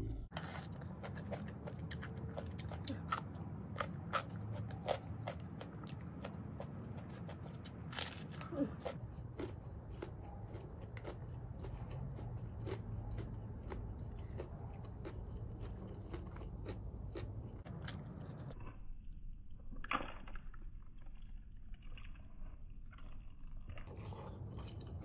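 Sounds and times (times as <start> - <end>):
person chewing food: 0.3 - 18.8, 19.6 - 25.0.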